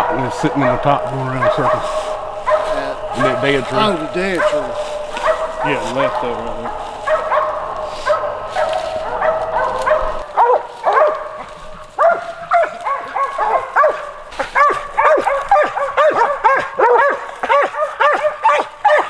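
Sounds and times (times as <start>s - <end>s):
hunting dogs barking: 0.0s - 19.0s.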